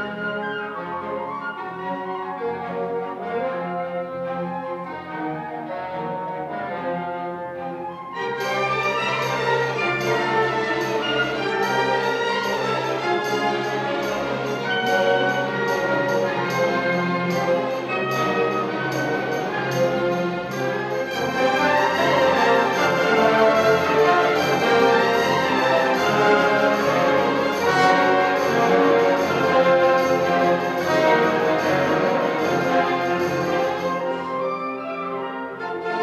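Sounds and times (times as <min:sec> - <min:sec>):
symphony orchestra playing: 0:00.0 - 0:36.0.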